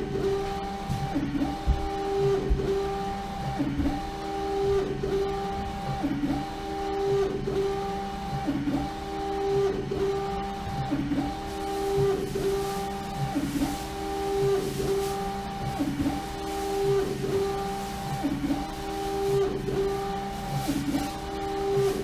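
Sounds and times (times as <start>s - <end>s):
printer carriage motor whine: 0.0s - 22.0s.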